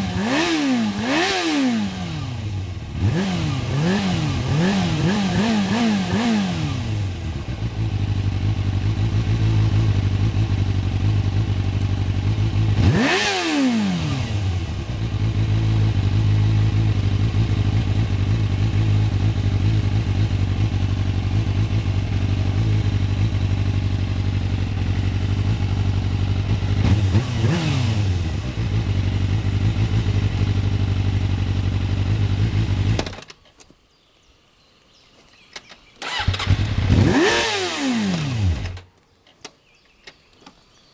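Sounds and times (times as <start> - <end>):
motorcycle engine revving: 0.0 - 33.2, 36.0 - 38.9
motorcycle engine running: 0.0 - 33.2, 36.0 - 38.8.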